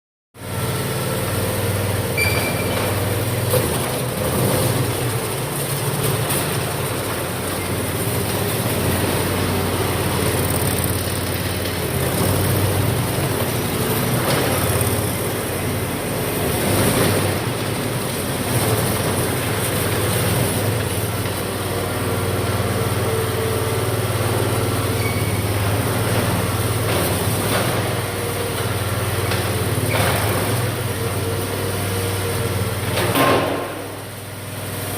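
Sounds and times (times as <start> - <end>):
loader engine running steadily: 0.4 - 34.9.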